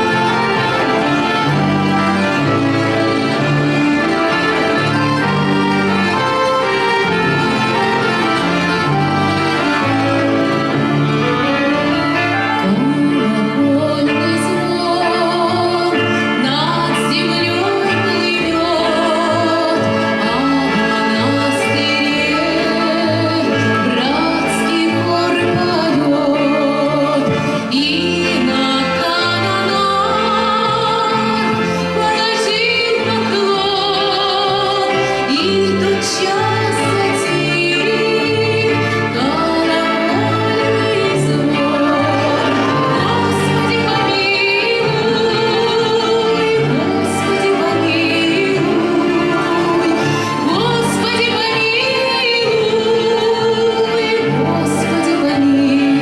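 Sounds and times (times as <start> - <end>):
orchestra with bowed strings: 0.0 - 56.0
woman singing with vibrato: 0.0 - 56.0.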